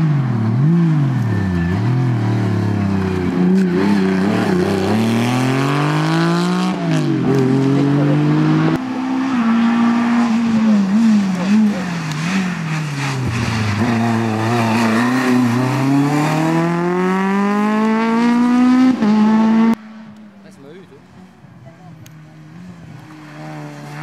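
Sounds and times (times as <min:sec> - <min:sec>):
rally car engines revving: 0:00.0 - 0:24.0.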